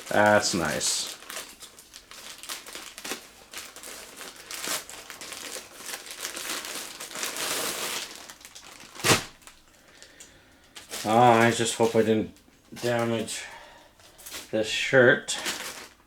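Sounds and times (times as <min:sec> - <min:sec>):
packaging bag crinkling: 0:00.0 - 0:14.6, 0:15.3 - 0:16.0.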